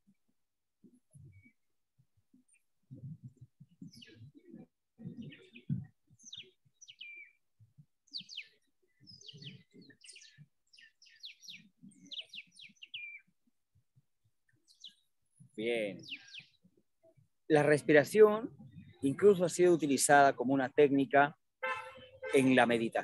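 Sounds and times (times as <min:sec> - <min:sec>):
small birds chirping: 0:00.8 - 0:20.2.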